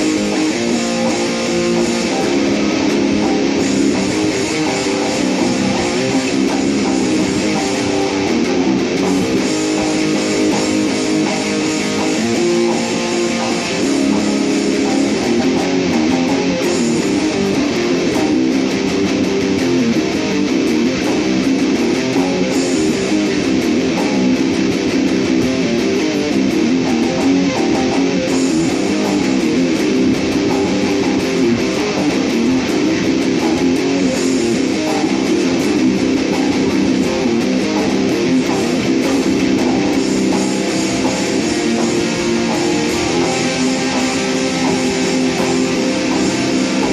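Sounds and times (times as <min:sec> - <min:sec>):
electric guitar through amplifier: 0:00.0 - 0:46.9.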